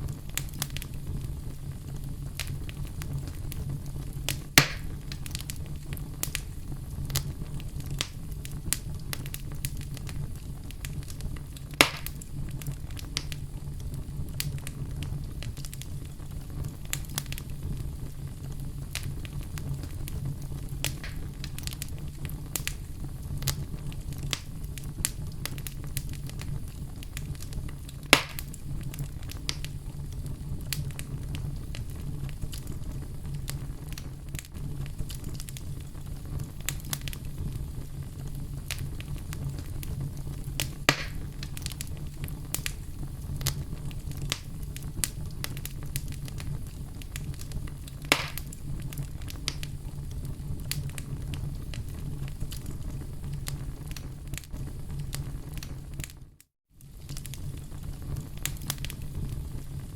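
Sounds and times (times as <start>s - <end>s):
campfire crackling: 0.0s - 56.2s, 56.8s - 59.9s
loud fire pops: 0.0s - 59.9s
low rumble of burning: 0.0s - 59.9s.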